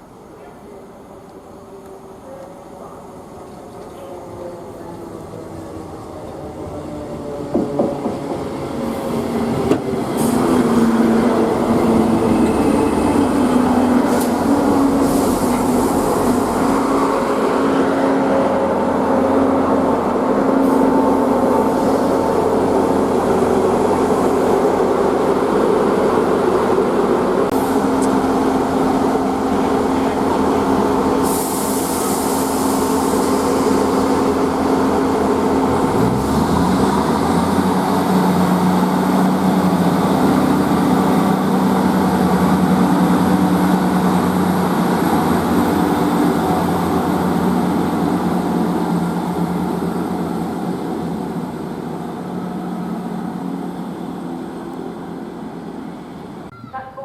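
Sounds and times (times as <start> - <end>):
diesel train engine: 0.0 - 57.0.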